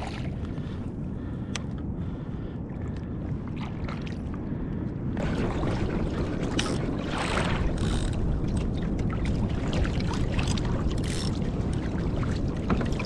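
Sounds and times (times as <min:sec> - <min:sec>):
water lapping against kayak hull: 0:00.0 - 0:13.0
wind buffeting microphone: 0:00.0 - 0:13.0.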